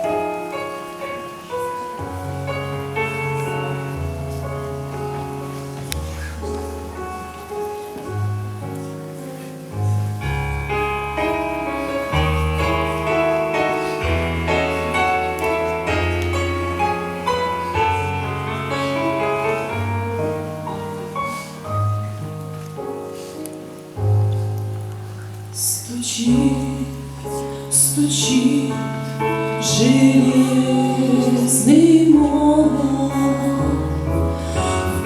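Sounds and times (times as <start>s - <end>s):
slow piano hymn introduction: 0.0s - 35.0s.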